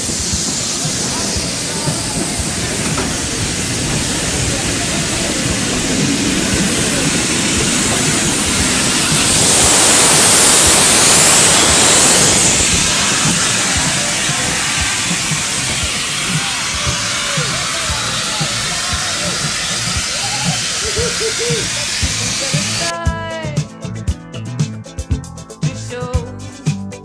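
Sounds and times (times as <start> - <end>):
steam locomotive steam hiss: 0.0 - 22.9.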